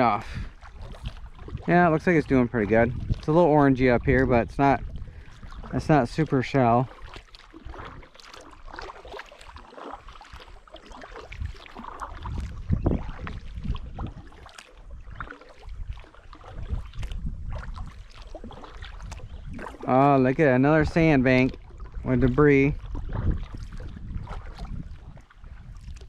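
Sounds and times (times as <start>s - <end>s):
paddle splashing in water: 0.0s - 26.0s.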